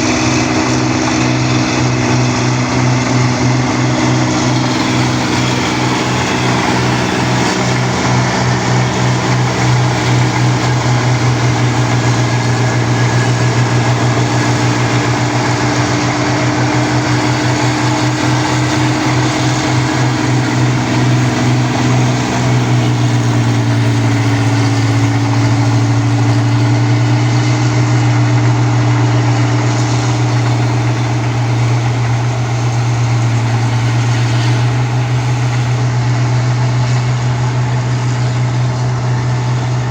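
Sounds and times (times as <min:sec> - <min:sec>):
harvester diesel engine droning: 0:00.0 - 0:39.9
machinery clatter: 0:00.0 - 0:39.9.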